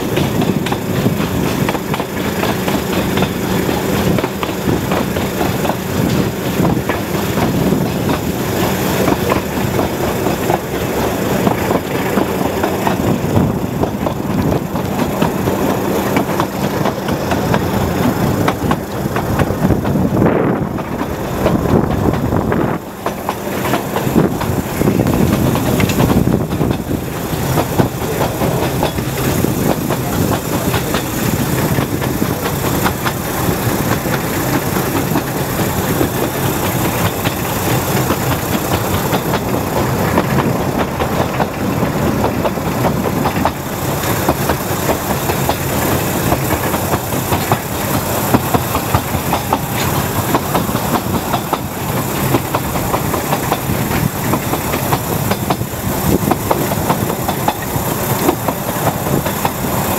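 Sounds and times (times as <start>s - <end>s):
steam train running: 0.0s - 59.9s
wheels clattering on track: 0.0s - 59.9s.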